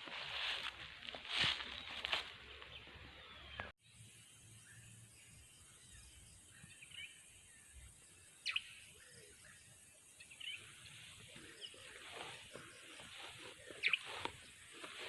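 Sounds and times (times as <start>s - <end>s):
bird chirps: 1.5s - 15.0s.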